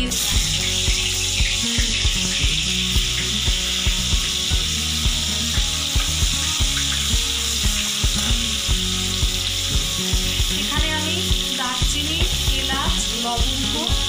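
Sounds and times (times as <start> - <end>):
background music with a beat: 0.0 - 14.0
oil sizzling: 0.0 - 14.0.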